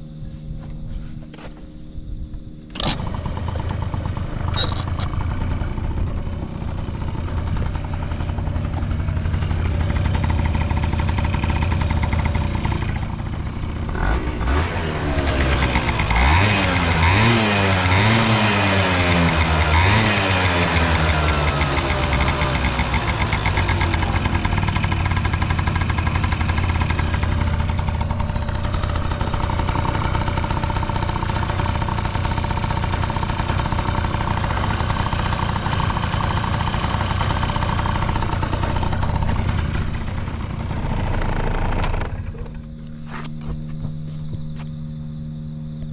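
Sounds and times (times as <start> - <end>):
scooter engine idling: 2.7 - 45.9.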